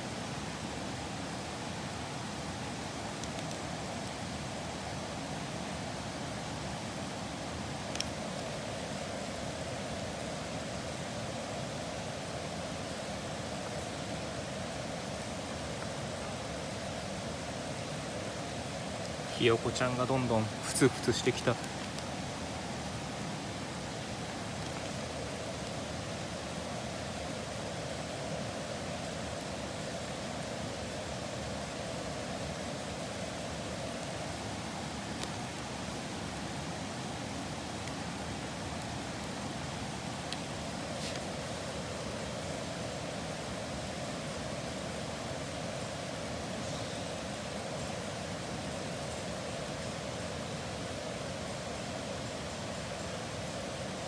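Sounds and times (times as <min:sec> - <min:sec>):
camp stove flame hissing: 0:00.0 - 0:46.6
water boiling in a pot: 0:00.0 - 0:54.0.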